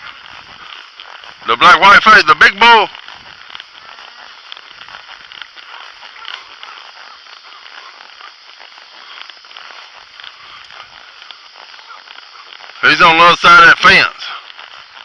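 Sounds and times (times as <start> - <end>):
brush and twigs crackling: 0.0 - 15.0.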